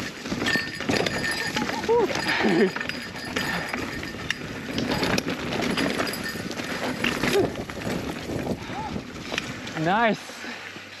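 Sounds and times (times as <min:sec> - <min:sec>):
bike rattling and clicking: 0:00.0 - 0:11.0
bike tyres rolling over dirt: 0:00.0 - 0:11.0.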